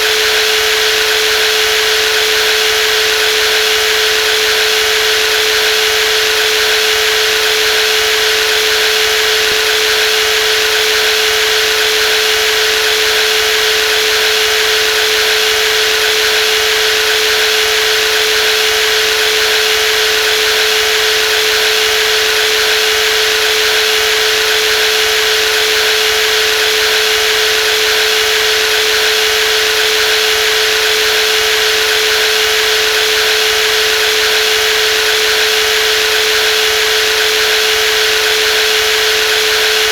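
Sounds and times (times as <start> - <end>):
jigsaw running: 0.0 - 39.9.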